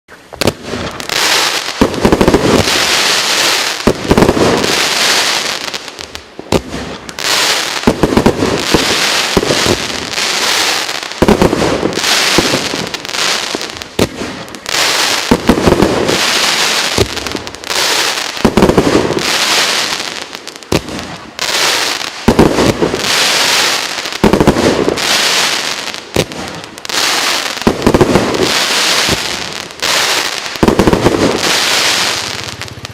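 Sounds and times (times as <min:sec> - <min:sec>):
firework barrage firing: 0:00.2 - 0:32.9.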